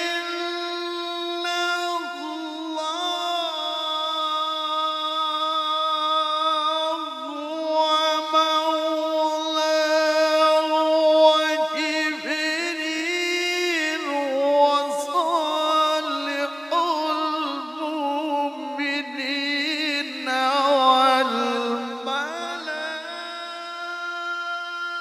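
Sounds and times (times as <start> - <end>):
man reciting melodically: 0.0 - 25.0.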